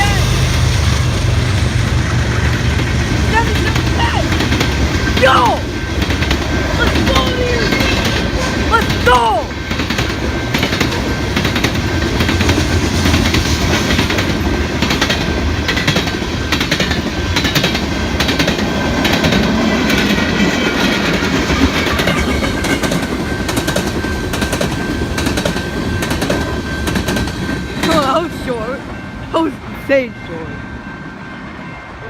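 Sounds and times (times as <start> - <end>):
freight train rumbling: 0.0 - 32.0
wheels clicking over rail joints: 1.8 - 28.7.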